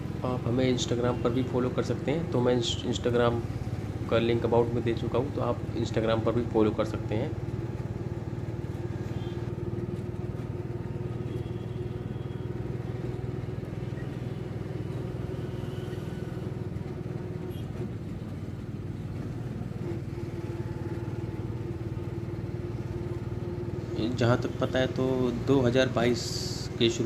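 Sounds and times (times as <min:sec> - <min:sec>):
road traffic with motorcycles: 0:00.0 - 0:27.0
vehicle engine droning: 0:00.0 - 0:27.0.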